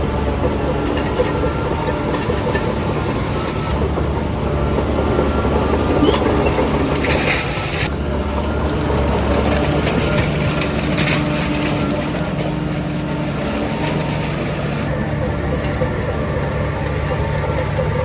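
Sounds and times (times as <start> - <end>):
bulldozer diesel engine under load: 0.0 - 18.0
metallic clatter of tracks: 0.0 - 18.0.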